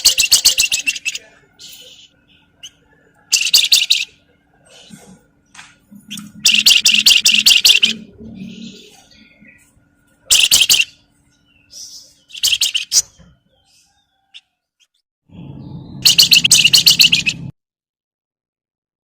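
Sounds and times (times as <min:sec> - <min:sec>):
bird chattering chirps: 0:00.0 - 0:05.0, 0:06.0 - 0:14.5, 0:15.6 - 0:17.5.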